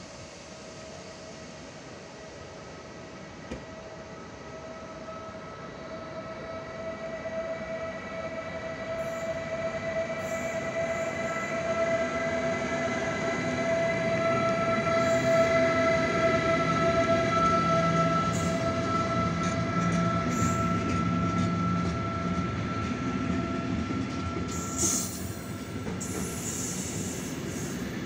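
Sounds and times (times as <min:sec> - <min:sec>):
electric locomotive whine: 0:00.0 - 0:28.0
freight train rumble: 0:00.0 - 0:28.0.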